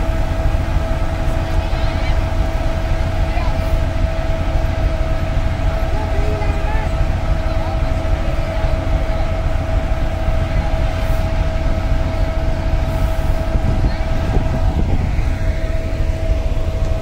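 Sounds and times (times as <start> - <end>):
diesel locomotive engine drone: 0.0 - 17.0
heavy low rumble: 0.0 - 17.0.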